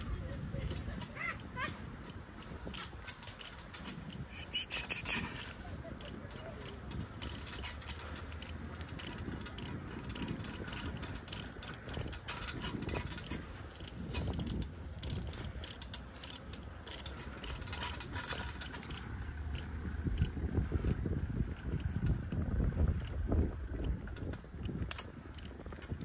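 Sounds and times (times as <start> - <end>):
low rumble of tyres: 0.0 - 26.0
bicycle freewheel ticking: 0.7 - 26.0.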